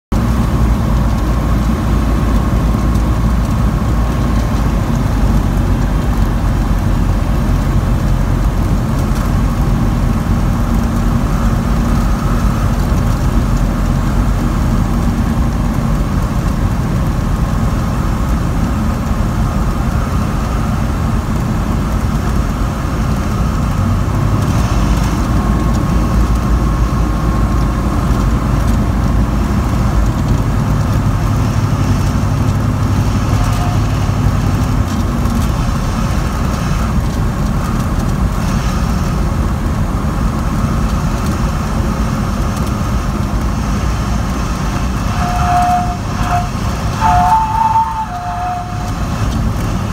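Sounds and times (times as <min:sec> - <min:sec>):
propeller plane engine droning: 0:00.1 - 0:49.9.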